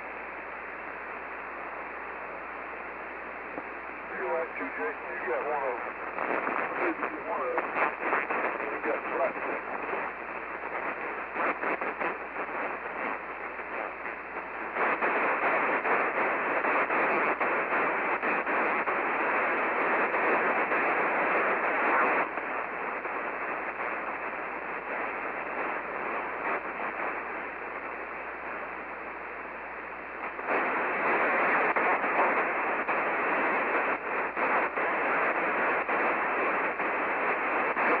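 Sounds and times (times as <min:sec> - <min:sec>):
radio static hissing: 0:00.0 - 0:38.0.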